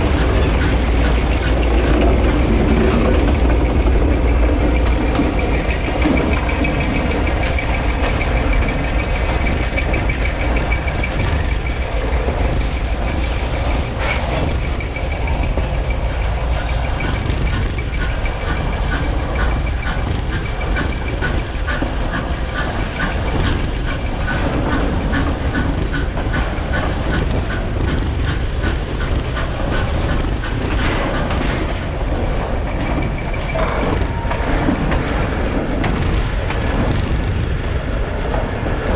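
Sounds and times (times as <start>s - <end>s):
train rumbling on rails: 0.0s - 38.9s
wheels clicking over rail joints: 0.0s - 38.9s.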